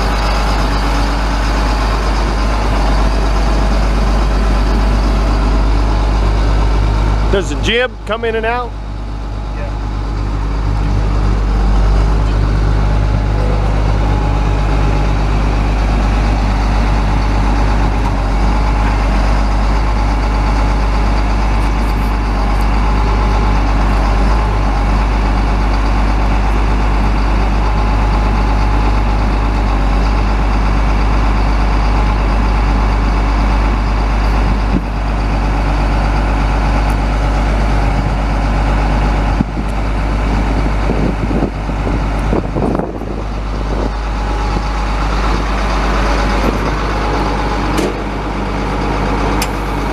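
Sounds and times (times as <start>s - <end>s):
diesel truck engine running: 0.0s - 49.9s.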